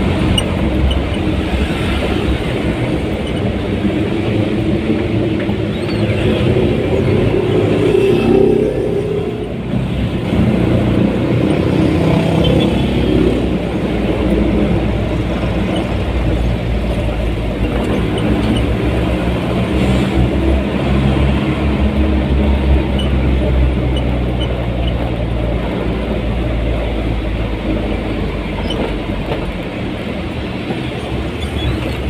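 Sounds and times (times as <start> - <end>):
road noise: 0.0 - 32.0.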